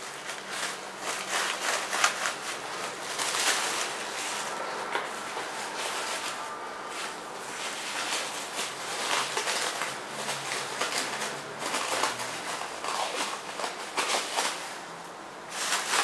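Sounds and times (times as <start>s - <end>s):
cling film crinkling: 0.0s - 14.9s.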